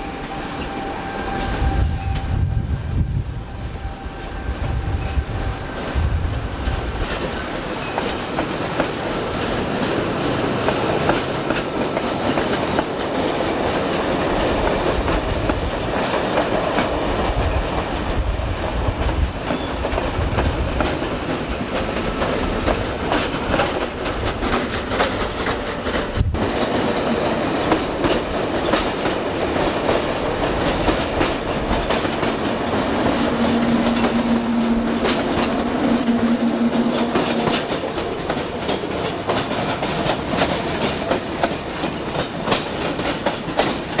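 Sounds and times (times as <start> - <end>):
train wheels clickety-clack: 3.8 - 44.0.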